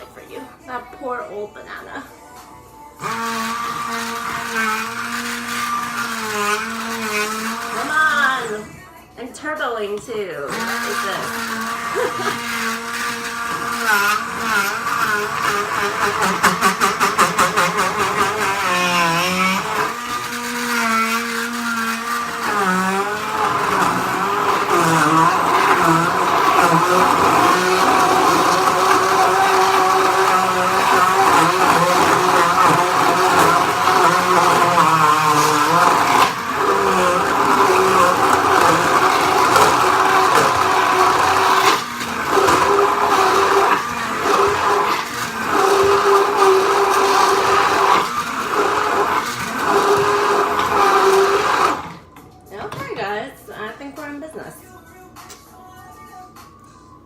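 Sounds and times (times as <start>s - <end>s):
blender motor running: 3.0s - 8.8s, 10.4s - 52.2s.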